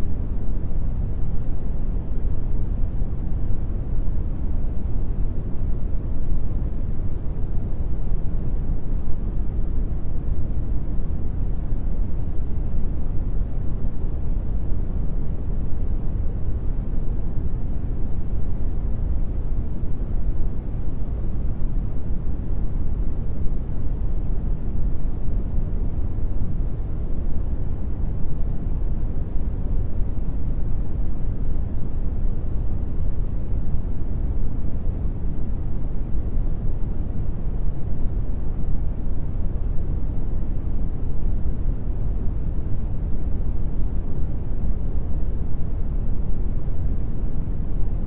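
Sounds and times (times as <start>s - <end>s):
brown noise hiss: 0.0s - 48.0s.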